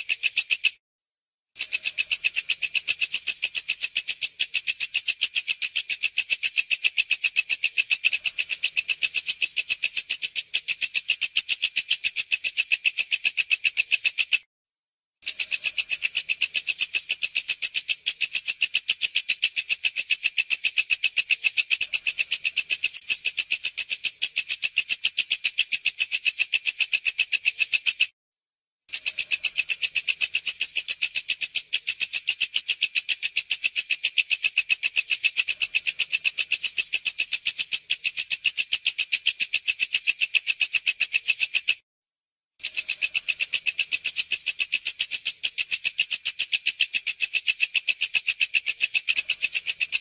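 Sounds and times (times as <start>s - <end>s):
bush cricket calling: 0.0s - 0.8s, 1.6s - 14.4s, 15.2s - 28.1s, 28.9s - 41.8s, 42.6s - 50.0s.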